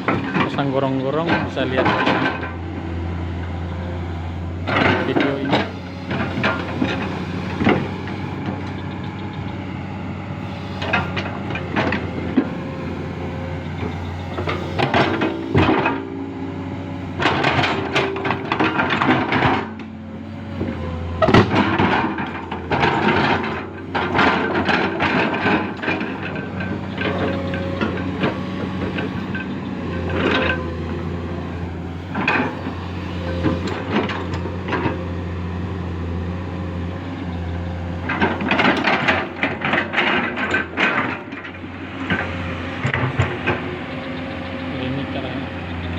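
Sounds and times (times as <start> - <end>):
excavator running: 0.0 - 45.9.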